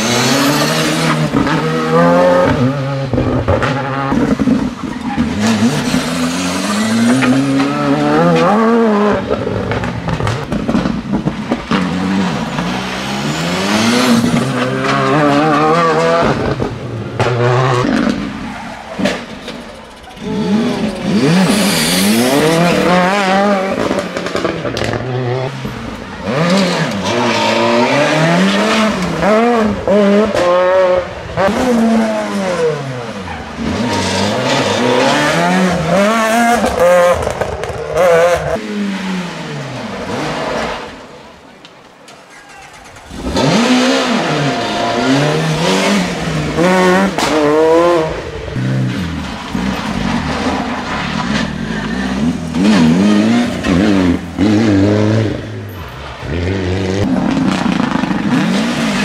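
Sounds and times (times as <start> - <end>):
rally car engines accelerating: 0.0 - 59.0.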